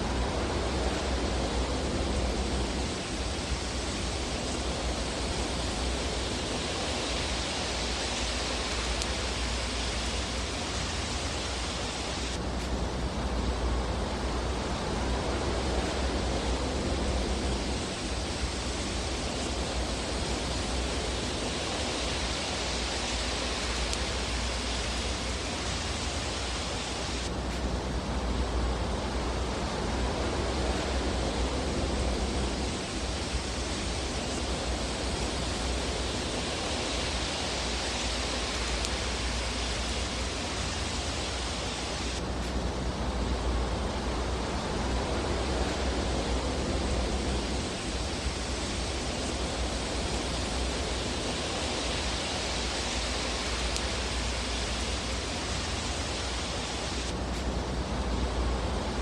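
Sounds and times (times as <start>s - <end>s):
rushing fireplace hiss: 0.0s - 59.0s.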